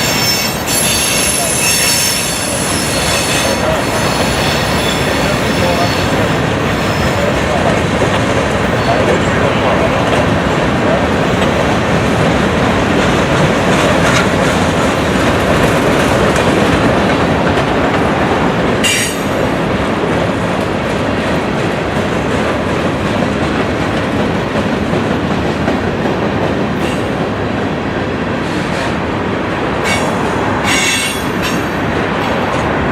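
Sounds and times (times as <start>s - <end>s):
train wheels rumbling on rails: 0.0s - 32.9s.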